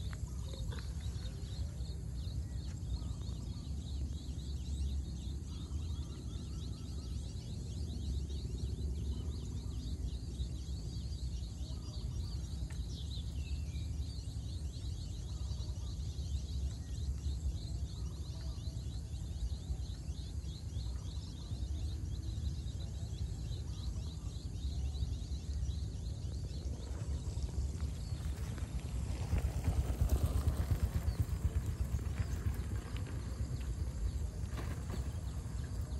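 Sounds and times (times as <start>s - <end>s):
small birds chirping: 0.0s - 35.9s
steady low rumble: 0.0s - 35.9s.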